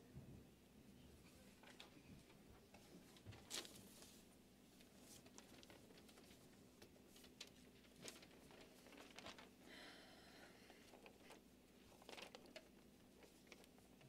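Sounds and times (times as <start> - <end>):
faint rustle: 1.2 - 14.0.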